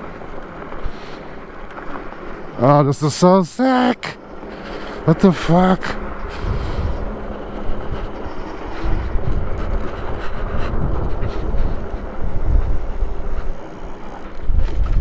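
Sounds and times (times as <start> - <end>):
wind rumbling on microphone: 0.0 - 3.0, 4.2 - 15.0
bike tyres on dirt trail: 0.0 - 15.0.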